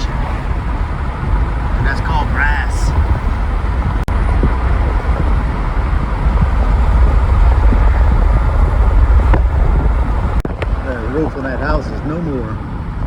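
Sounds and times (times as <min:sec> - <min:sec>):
vehicle road and wind noise: 0:00.0 - 0:13.0.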